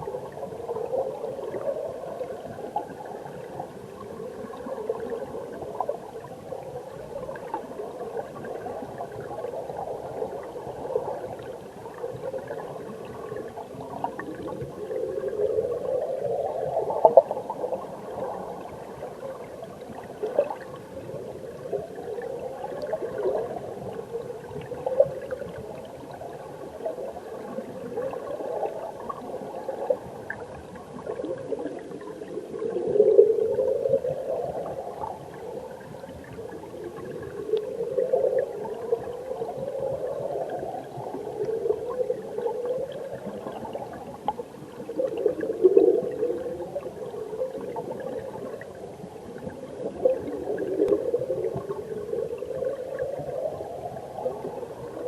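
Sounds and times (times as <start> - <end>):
water gurgling and rushing: 0.0 - 55.0.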